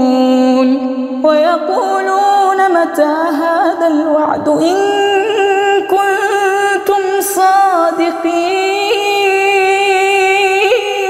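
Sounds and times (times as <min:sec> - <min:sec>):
woman chanting recitation: 0:00.0 - 0:11.0.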